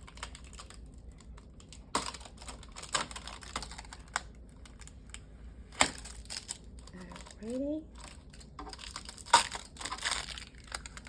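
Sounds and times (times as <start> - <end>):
hands picking at plastic packaging: 0.0 - 11.0.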